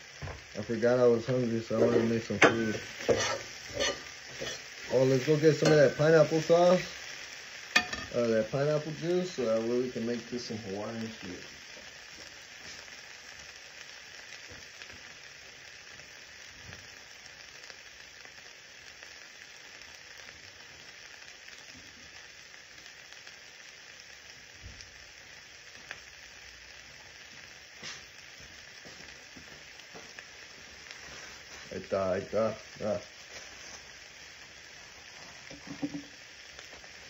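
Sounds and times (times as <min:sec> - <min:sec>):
meat sizzling in a pan: 0:00.0 - 0:37.0
crackling pops: 0:00.1 - 0:10.1, 0:10.8 - 0:37.0.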